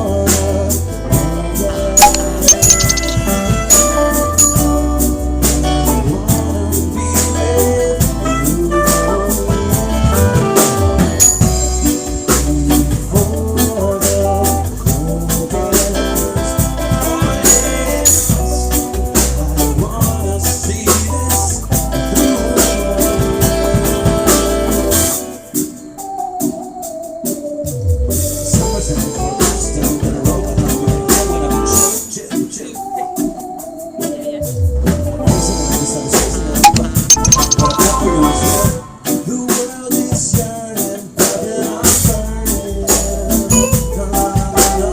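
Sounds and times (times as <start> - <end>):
live acoustic band playing: 0.0 - 44.9.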